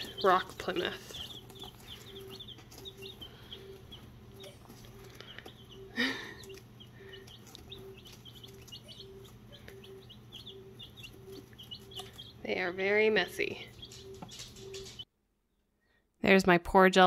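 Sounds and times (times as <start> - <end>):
baby chicks peeping: 0.0 - 15.6.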